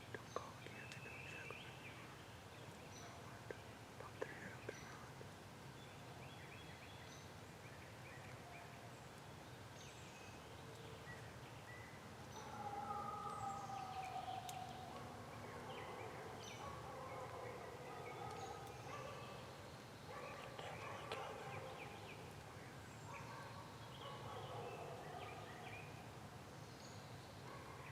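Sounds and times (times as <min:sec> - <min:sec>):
songbirds chirping: 0:00.0 - 0:27.9.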